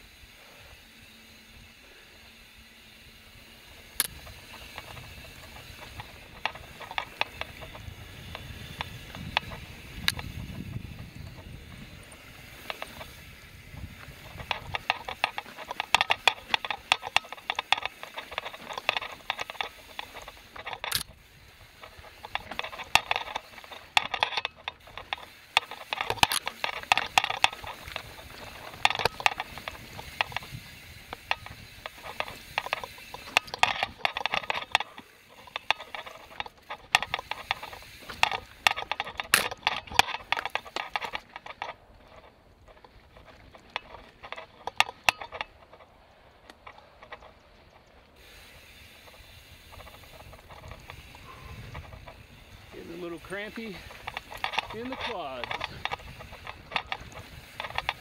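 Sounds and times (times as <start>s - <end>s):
bicycle freehub ratcheting clicks: 0.0s - 58.0s.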